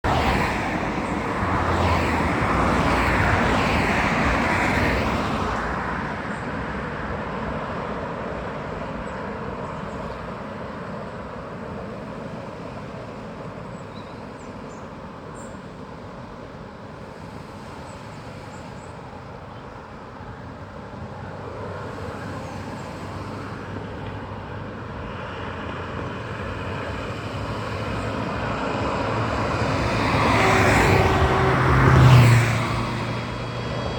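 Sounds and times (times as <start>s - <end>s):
vehicle roar and rumble: 0.0s - 33.9s.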